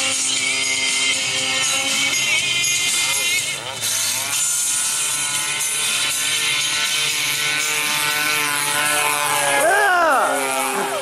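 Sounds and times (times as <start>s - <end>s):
model airplane engine: 0.0s - 11.0s.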